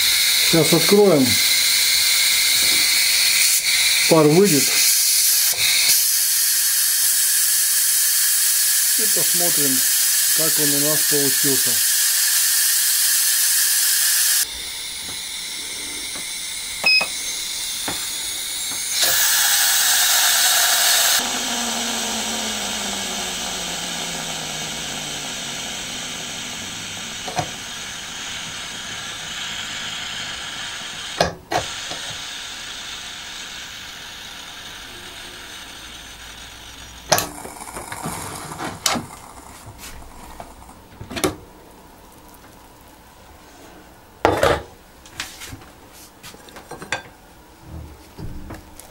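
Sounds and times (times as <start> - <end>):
steam hissing from valve: 0.0 - 40.8.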